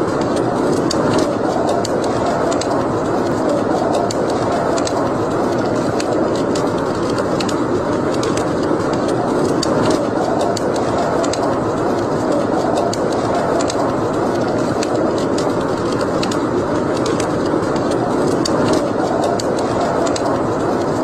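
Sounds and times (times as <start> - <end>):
wood fire crackling in a fireplace: 0.0 - 21.0.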